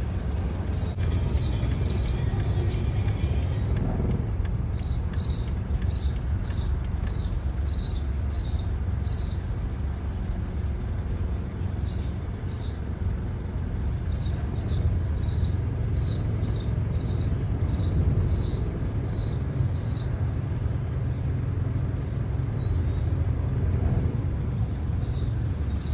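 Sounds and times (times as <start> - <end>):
steady low rumble: 0.0 - 25.9.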